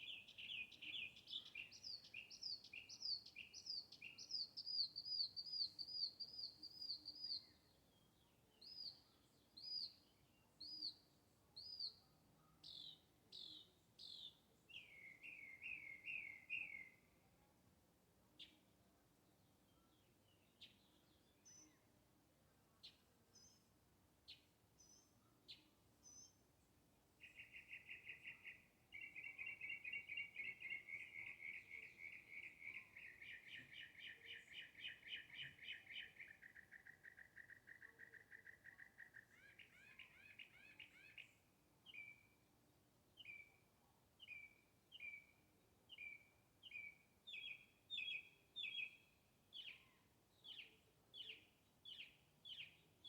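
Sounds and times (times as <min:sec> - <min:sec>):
songbird chirping and trilling: 0:00.0 - 0:53.0.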